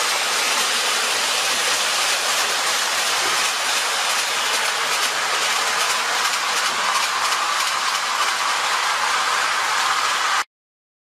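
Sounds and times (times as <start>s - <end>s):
model train rolling whir: 0.0s - 10.4s.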